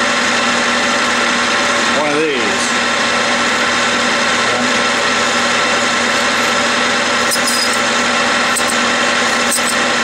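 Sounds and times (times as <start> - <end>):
metal lathe running: 0.0 - 10.0.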